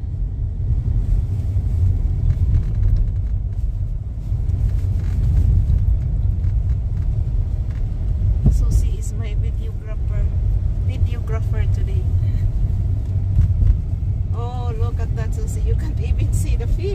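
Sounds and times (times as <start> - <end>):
car engine and road noise: 0.0 - 16.9.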